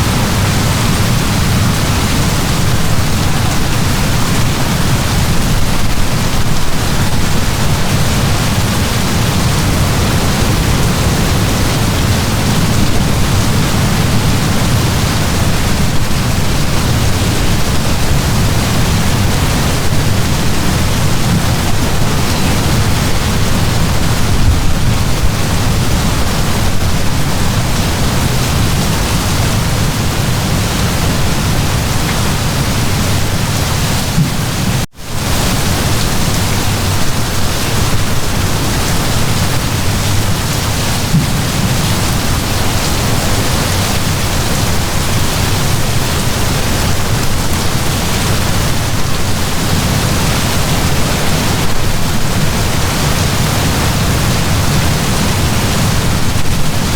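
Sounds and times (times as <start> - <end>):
heavy rain downpour: 0.0 - 56.9.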